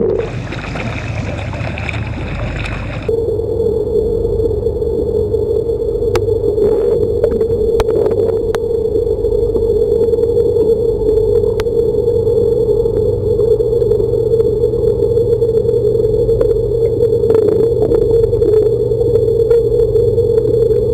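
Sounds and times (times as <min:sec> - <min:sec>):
underwater droning hum: 0:00.0 - 0:20.9.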